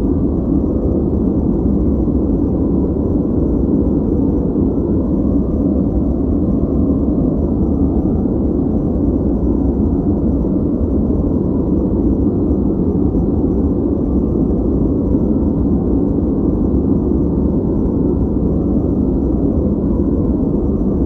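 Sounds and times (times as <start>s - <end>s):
dark muffled white noise: 0.0s - 21.0s.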